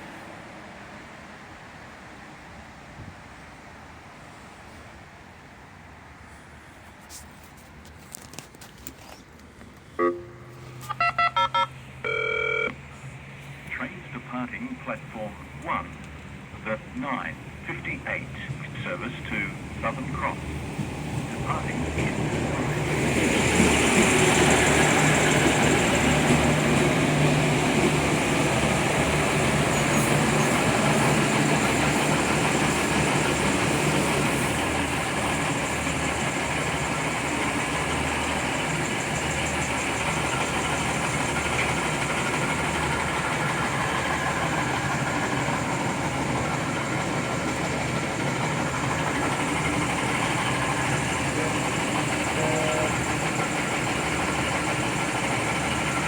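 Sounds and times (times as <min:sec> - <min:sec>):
train engine idling: 0:09.4 - 0:56.0.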